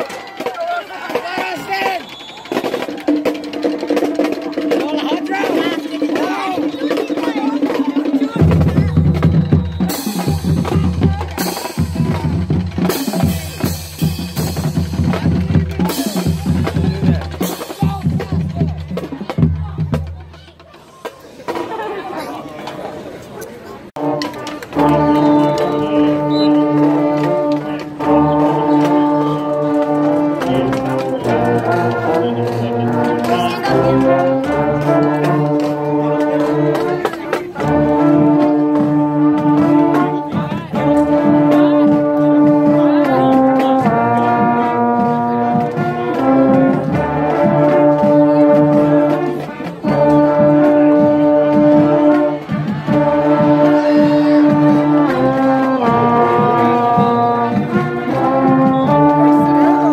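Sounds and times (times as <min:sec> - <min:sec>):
percussion hits: 0:00.0 - 0:22.0, 0:24.0 - 0:59.9
marching band brass playing: 0:00.0 - 0:23.0, 0:23.9 - 0:59.9.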